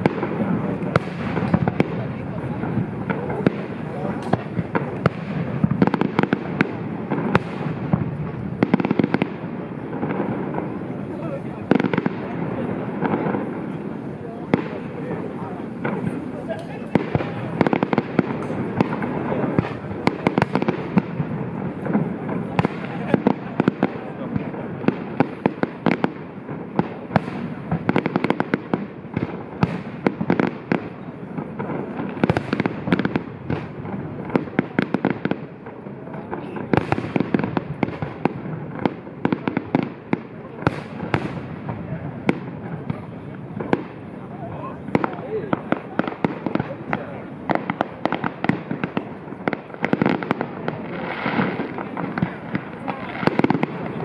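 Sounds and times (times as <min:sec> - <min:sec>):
fireworks crackling pops: 0:00.0 - 0:54.0.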